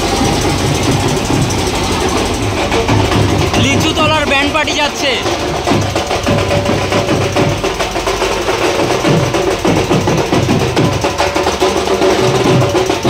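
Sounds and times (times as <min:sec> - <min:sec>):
held wind notes: 0:00.0 - 0:13.0
loud drumming: 0:00.0 - 0:13.0.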